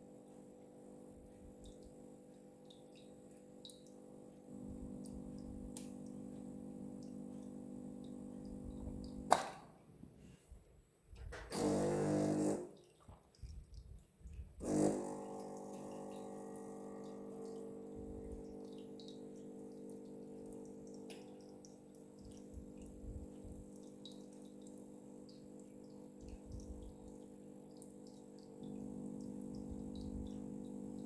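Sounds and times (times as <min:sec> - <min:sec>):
espresso machine pump humming: 0:00.0 - 0:09.3, 0:11.5 - 0:12.7, 0:14.6 - 0:31.0.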